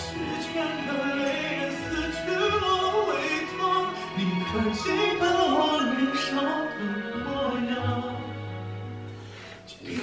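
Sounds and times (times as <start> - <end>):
slow pop song with singing: 0.0 - 10.0.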